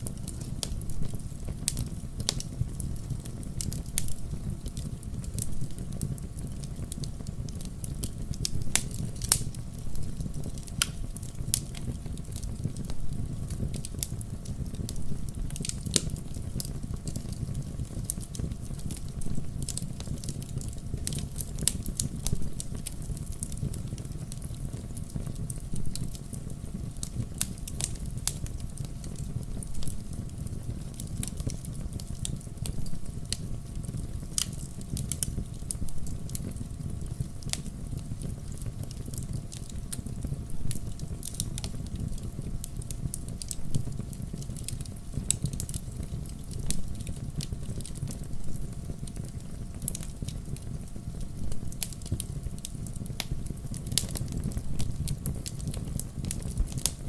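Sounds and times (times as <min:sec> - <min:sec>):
campfire crackling and popping: 0:00.0 - 0:57.0
low rumble of burning fire: 0:00.0 - 0:57.0.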